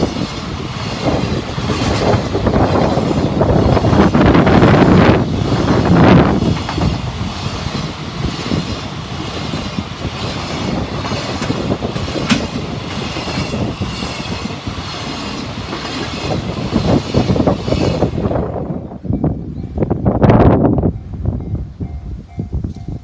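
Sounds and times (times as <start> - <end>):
clickety-clack over rail joints: 0.0 - 18.7
train wheels rumbling on rails: 0.0 - 23.0.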